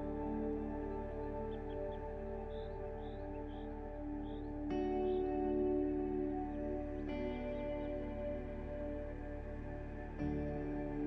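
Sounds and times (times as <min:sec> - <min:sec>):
ambient music with sustained chords: 0:00.0 - 0:11.0.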